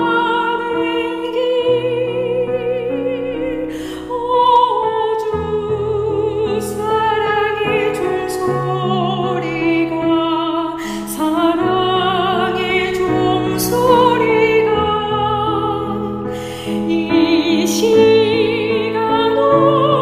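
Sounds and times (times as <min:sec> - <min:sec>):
piano chords: 0:00.0 - 0:20.0
woman singing hymn with vibrato: 0:00.0 - 0:20.0.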